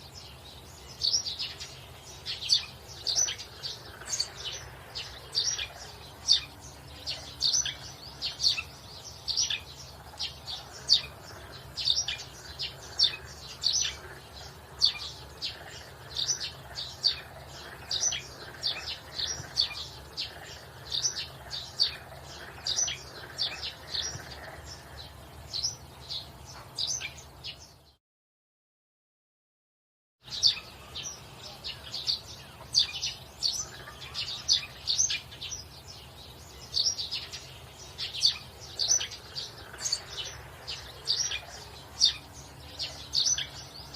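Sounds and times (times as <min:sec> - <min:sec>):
birds chirping: 0:00.0 - 0:28.0, 0:30.2 - 0:43.9.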